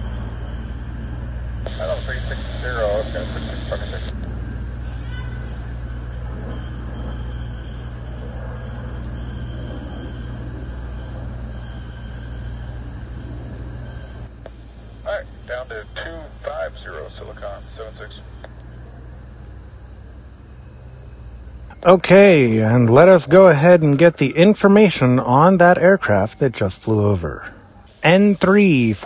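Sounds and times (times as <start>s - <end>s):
crickets chirring: 0.0s - 29.0s
propeller plane drone: 0.0s - 29.0s.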